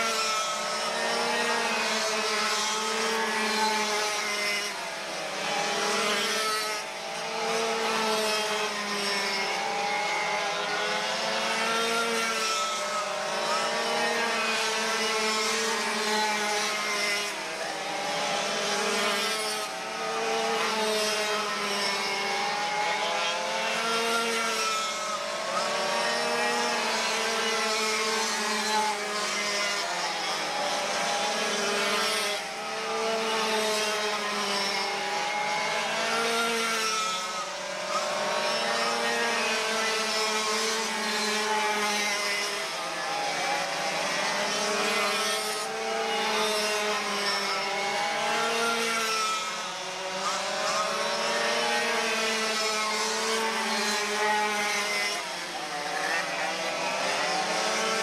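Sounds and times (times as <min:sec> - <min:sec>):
racing kart engines buzzing: 0:00.0 - 0:58.0.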